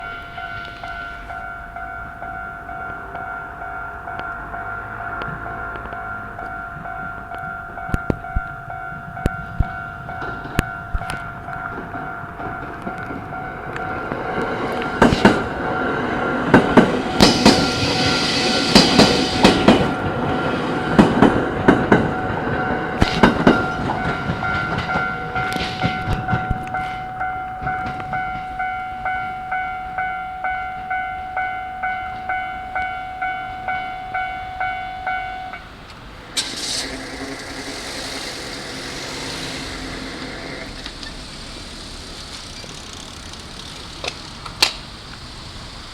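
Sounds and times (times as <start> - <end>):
train wheels clattering over rail joints: 0.0 - 29.2, 35.8 - 45.9
level-crossing warning bell ringing: 0.0 - 44.0.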